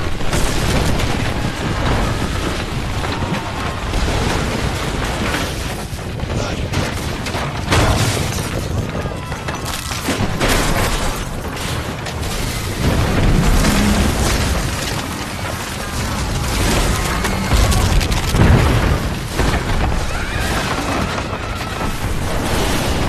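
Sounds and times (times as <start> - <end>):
debris crashing: 0.0 - 23.0
earthquake deep rumble: 0.0 - 23.0.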